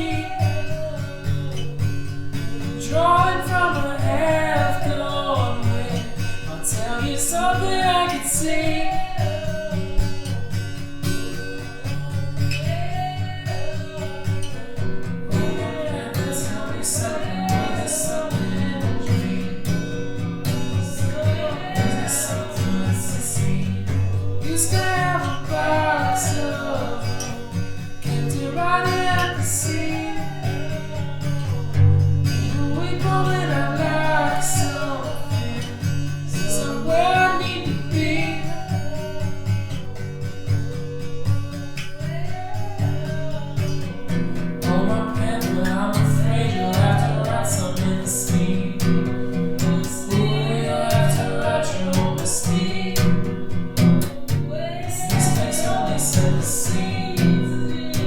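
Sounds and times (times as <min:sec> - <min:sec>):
person singing: 0:00.0 - 0:58.0
plucked guitar: 0:00.0 - 0:58.0.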